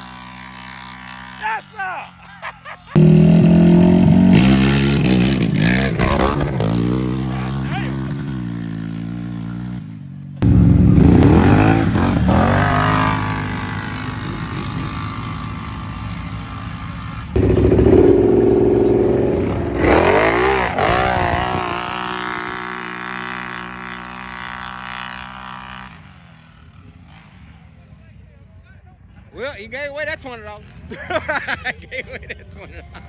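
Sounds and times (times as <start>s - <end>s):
atv engines accelerating: 0.0s - 33.0s.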